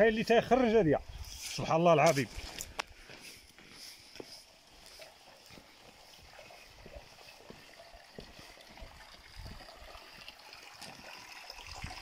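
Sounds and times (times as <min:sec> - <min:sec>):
water trickling into channel: 0:00.0 - 0:12.0.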